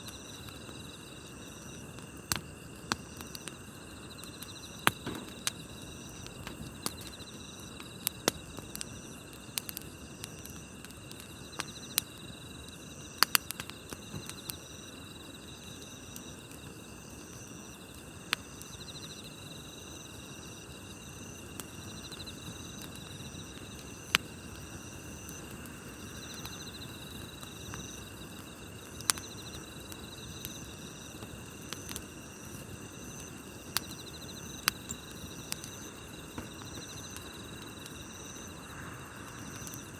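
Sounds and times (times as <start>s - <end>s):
campfire crackling and popping: 0.0s - 39.9s
night insects chirping: 0.0s - 39.9s.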